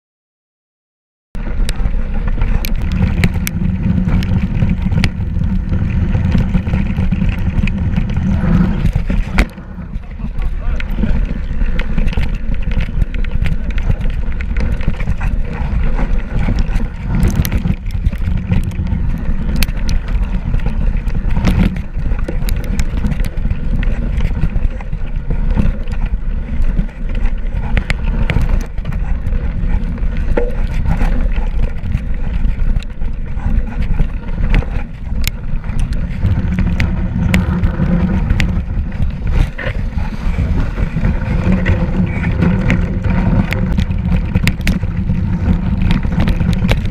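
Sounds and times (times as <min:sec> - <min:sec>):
bike clicks and rattles: 0:01.4 - 0:46.9
bike tyre rumbling: 0:01.4 - 0:46.9
wind on microphone: 0:01.4 - 0:46.9.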